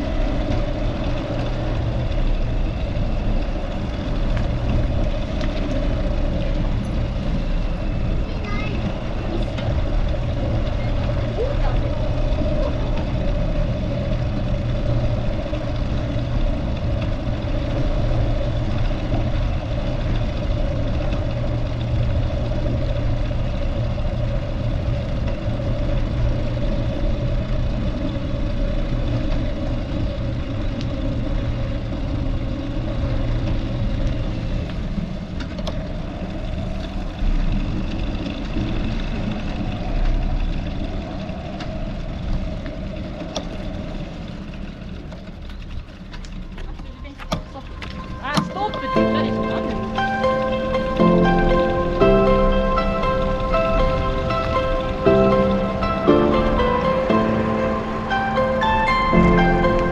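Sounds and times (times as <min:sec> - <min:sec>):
low traffic rumble: 0:00.0 - 0:59.9
vehicle engines running: 0:00.0 - 0:59.9.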